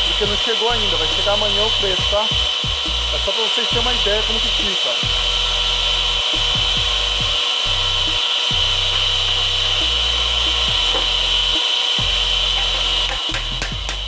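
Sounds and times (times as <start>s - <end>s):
circular saw blade whine: 0.0s - 14.0s
saw motor hum: 0.0s - 14.0s.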